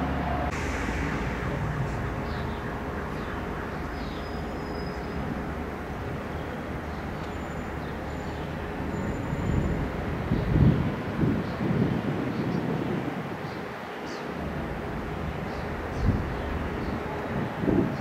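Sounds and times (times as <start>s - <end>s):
outdoor background rumble: 0.0s - 12.5s, 14.0s - 18.0s.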